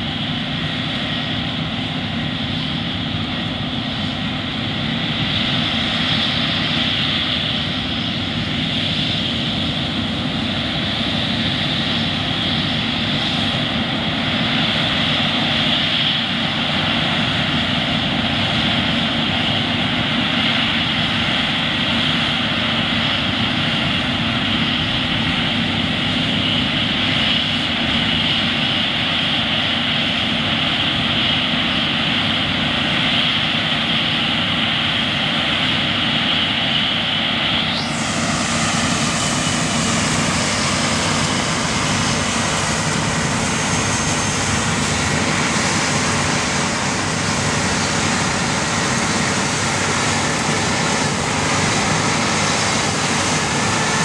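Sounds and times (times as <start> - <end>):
combine and tractor diesel drone: 0.0 - 54.0.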